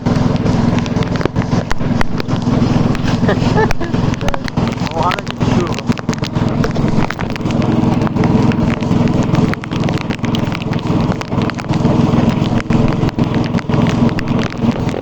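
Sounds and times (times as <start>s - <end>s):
boat motor running: 0.0s - 15.0s
heavy rain: 0.0s - 15.0s
raindrops tapping: 0.0s - 15.0s.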